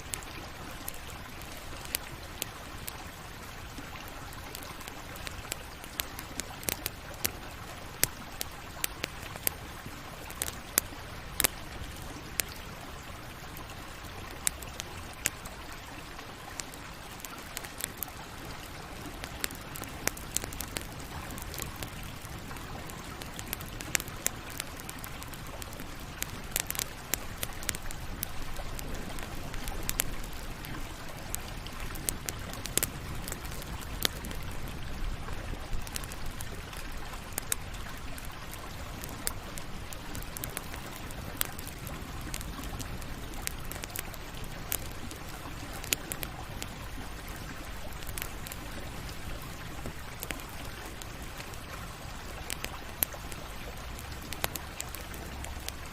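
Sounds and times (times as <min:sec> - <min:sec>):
campfire hissing: 0:00.0 - 0:55.9
fire crackles and pops: 0:00.0 - 0:55.9.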